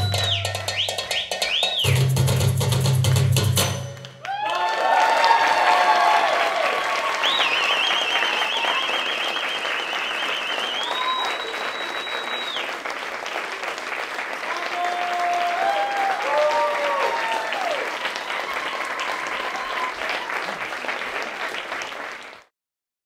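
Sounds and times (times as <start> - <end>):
audience applauding: 0.0 - 1.9, 3.9 - 22.5
people cheering: 0.0 - 2.0, 4.0 - 22.5.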